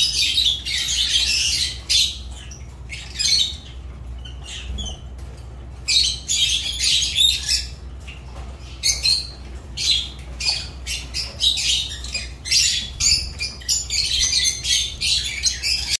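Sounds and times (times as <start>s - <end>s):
lovebirds chattering: 0.0s - 16.0s.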